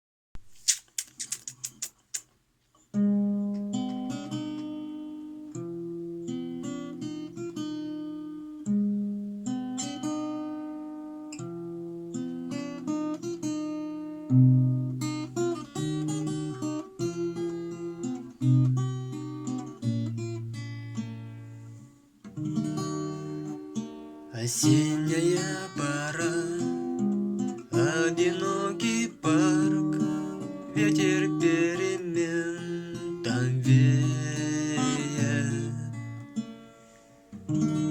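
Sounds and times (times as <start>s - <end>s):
acoustic guitar playing: 2.9s - 37.9s.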